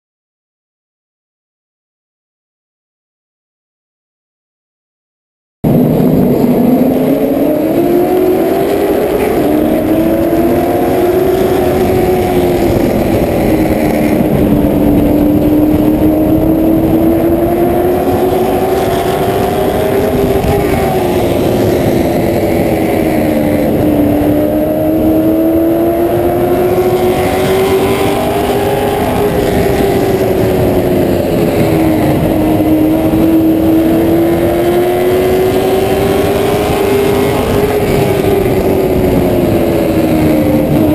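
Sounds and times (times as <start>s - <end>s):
race car engine drone: 5.6s - 40.9s.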